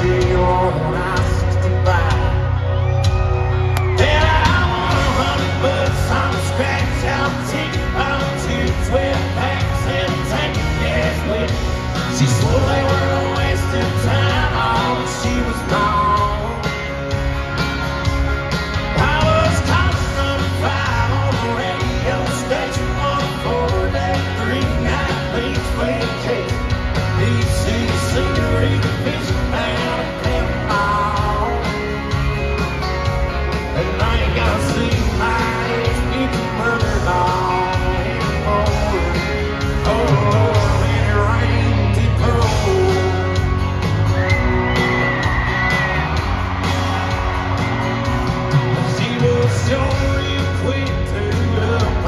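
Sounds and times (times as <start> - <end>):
lead vocal singing: 0.0 - 17.3, 18.8 - 32.4, 33.5 - 47.8, 48.4 - 52.0
bass: 0.0 - 52.0
drums: 0.0 - 52.0
electric guitars: 0.0 - 52.0.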